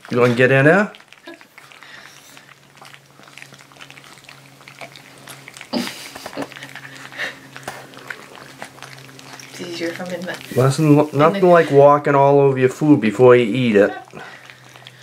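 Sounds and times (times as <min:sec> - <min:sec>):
faint steady hum: 0:00.0 - 0:15.0
puppies chewing and smacking: 0:00.0 - 0:15.0.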